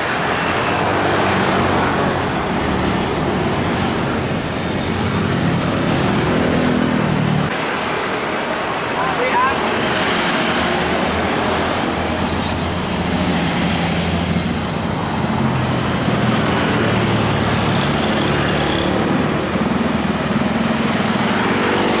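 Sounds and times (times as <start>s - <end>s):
bus diesel engine passing: 0.0s - 22.0s
motorcycles passing: 0.0s - 22.0s
road traffic noise: 0.0s - 22.0s.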